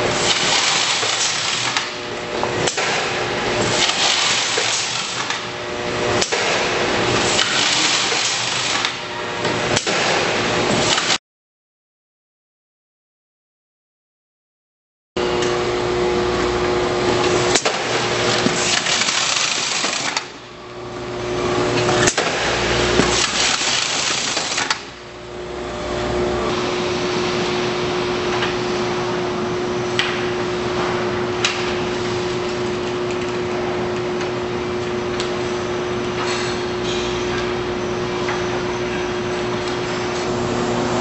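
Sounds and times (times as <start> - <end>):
machine motor hum: 0.0 - 11.2, 15.2 - 36.2, 37.4 - 41.0.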